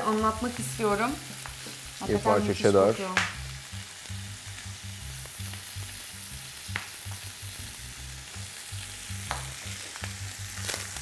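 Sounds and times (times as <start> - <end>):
patties sizzling in a frying pan: 0.0 - 11.0.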